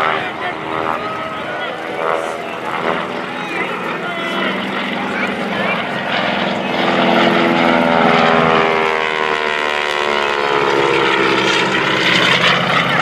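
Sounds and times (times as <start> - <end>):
propeller plane flying past: 0.0 - 13.0
radial engine and propeller: 0.0 - 13.0.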